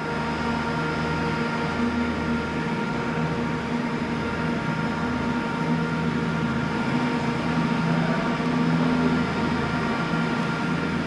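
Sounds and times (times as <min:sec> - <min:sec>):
constant hum: 0:00.0 - 0:11.0
diesel train engines droning: 0:00.0 - 0:11.0.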